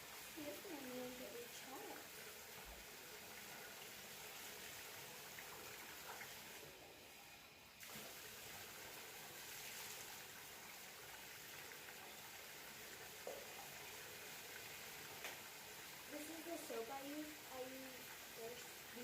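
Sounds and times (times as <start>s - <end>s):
faucet water running: 0.0s - 19.0s.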